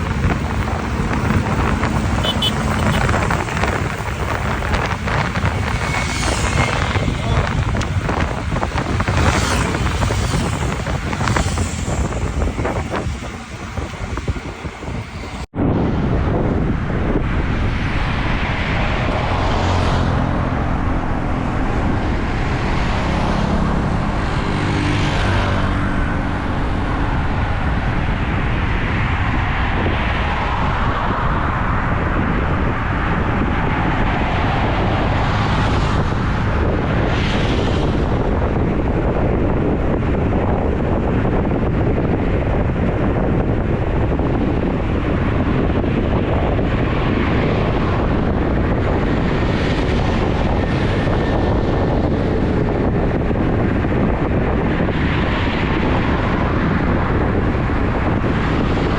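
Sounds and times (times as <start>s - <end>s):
vehicles passing: 0.0s - 58.9s
wind on microphone: 0.0s - 58.9s.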